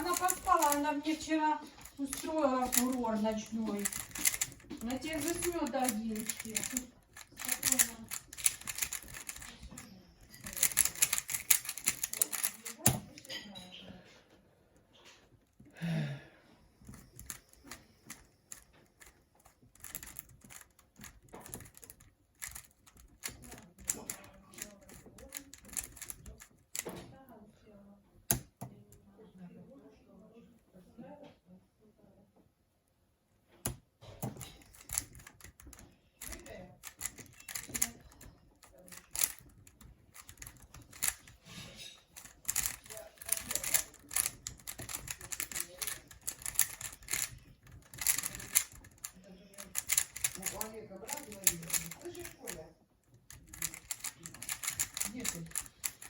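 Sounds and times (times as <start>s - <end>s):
puzzle cube plastic clicks: 0.0s - 13.4s, 16.8s - 27.1s, 28.3s - 28.7s, 33.6s - 56.0s.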